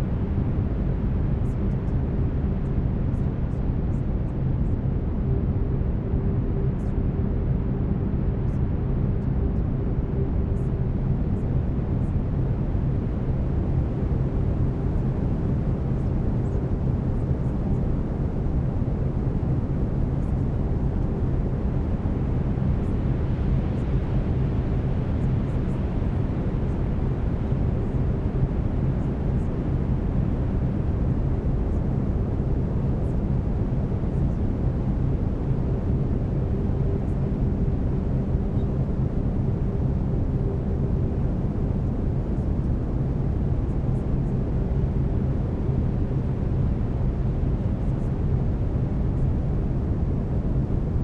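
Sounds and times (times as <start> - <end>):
low steady binaural tones: 0.0 - 51.0.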